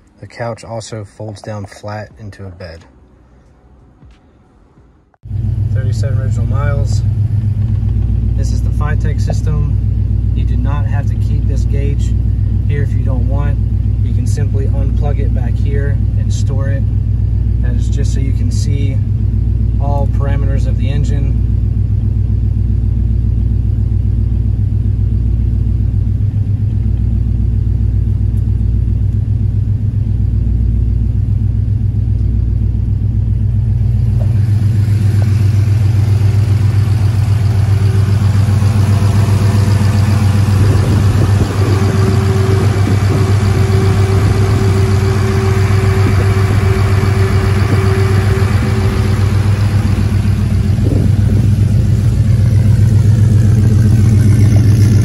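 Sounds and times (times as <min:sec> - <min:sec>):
car engine idling: 0:05.0 - 0:55.0.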